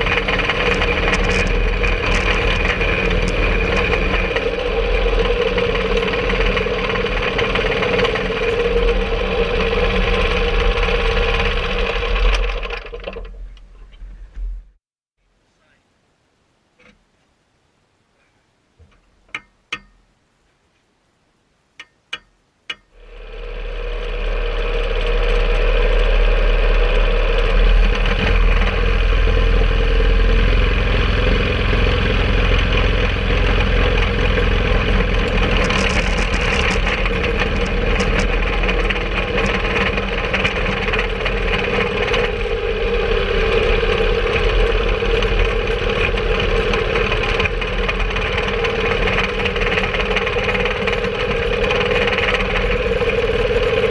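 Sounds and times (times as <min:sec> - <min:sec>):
rail cart motor running: 0:00.0 - 0:14.4, 0:23.0 - 0:53.9.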